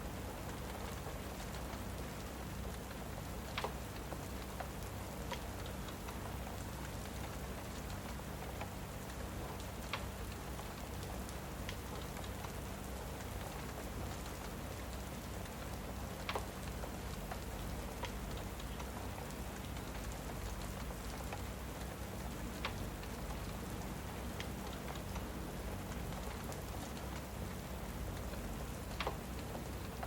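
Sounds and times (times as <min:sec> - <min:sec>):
steady rain: 0:00.0 - 0:30.0
wood fire crackling: 0:00.1 - 0:30.0.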